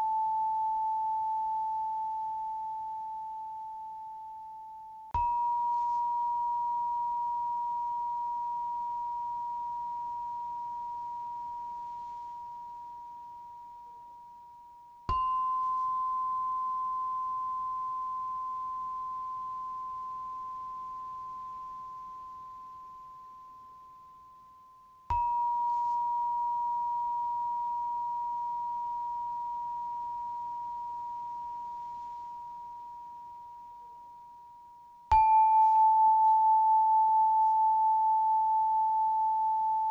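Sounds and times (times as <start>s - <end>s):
meditation chime ringing: 0.0s - 39.9s.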